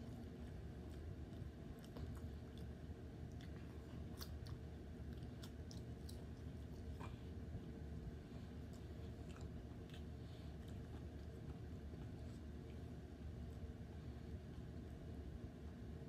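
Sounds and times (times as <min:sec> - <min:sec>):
chewing fried pork: 0:00.0 - 0:16.0
faint steady hum: 0:00.0 - 0:16.0.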